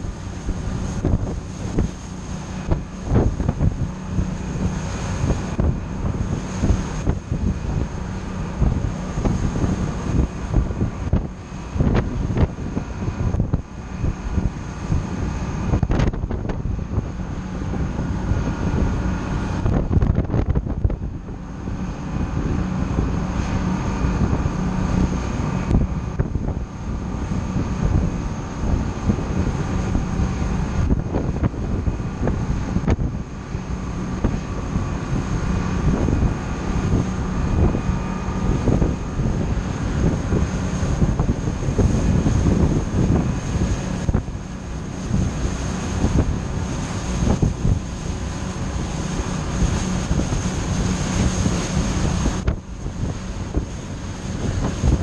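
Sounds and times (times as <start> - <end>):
boat engines droning: 0.0 - 55.0
rush of boat wake: 0.0 - 55.0
wind buffeting microphone: 0.0 - 55.0.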